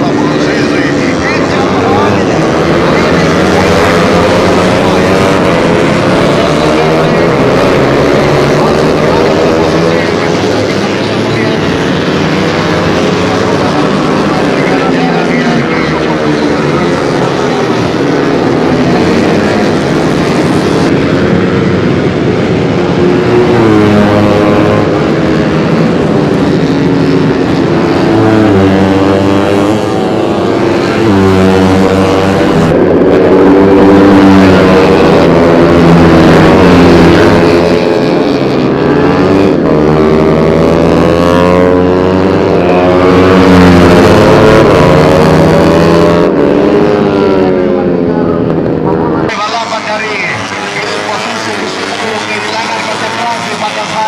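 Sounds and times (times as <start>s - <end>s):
racing motorcycle engines buzzing: 0.0s - 54.0s.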